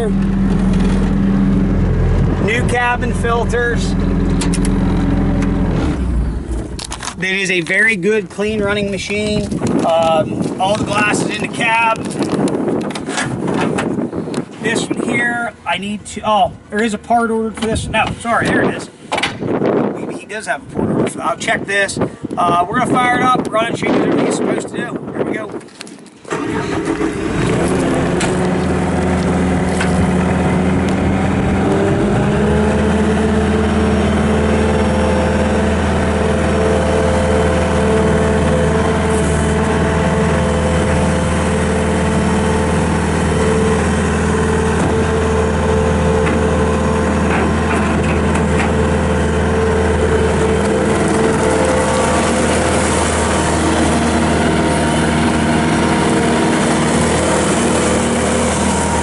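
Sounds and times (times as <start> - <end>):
diesel engine revving up: 0.0 - 19.9, 26.2 - 59.0.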